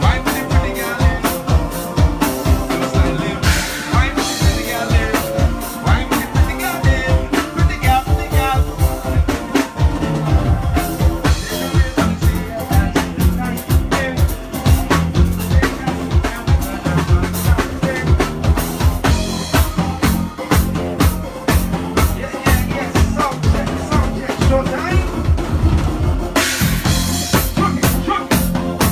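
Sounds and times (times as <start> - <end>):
drum kit fast beat: 0.0 - 28.9
live band playing soca music: 0.0 - 28.9.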